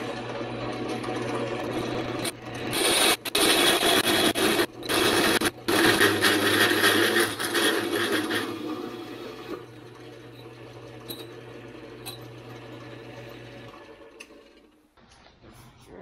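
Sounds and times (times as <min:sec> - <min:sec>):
drill press motor hum: 0:00.0 - 0:14.8
hole saw grinding steel: 0:00.0 - 0:14.8.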